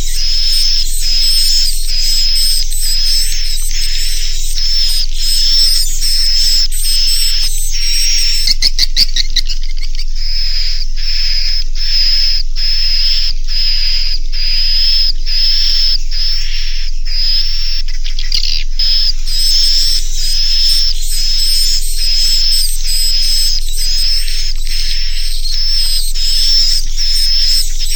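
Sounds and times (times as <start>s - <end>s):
high twittering bird chirps: 0.0s - 27.9s.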